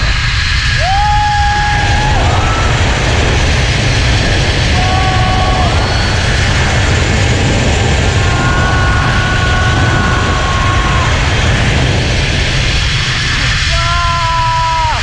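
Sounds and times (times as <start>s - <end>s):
heavy wind on microphone: 0.0s - 15.0s
thin steady whine: 0.0s - 15.0s.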